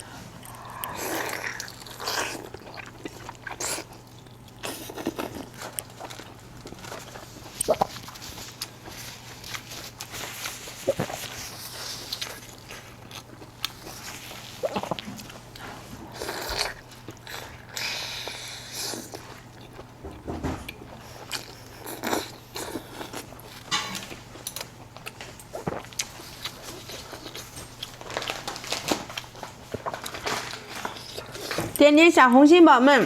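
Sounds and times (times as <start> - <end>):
faint steady hum: 0.0 - 33.0
person chewing and smacking: 0.4 - 23.7, 24.4 - 31.8.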